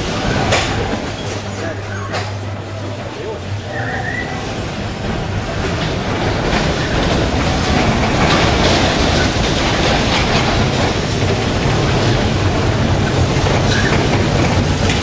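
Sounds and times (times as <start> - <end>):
bumper cars rumbling on metal floor: 0.0 - 15.0.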